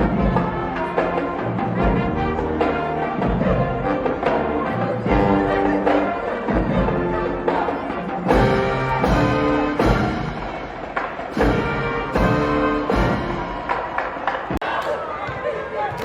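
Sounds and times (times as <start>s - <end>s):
sustained pitched music notes: 0.0s - 14.0s.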